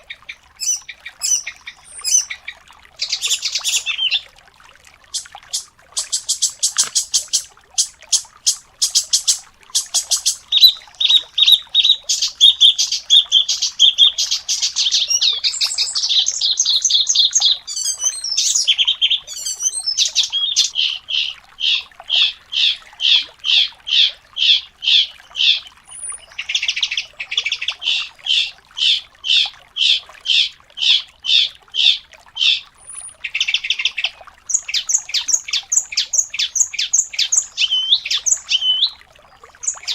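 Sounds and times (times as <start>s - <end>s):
songbird singing: 0.0s - 4.3s, 5.1s - 29.0s, 31.8s - 39.9s.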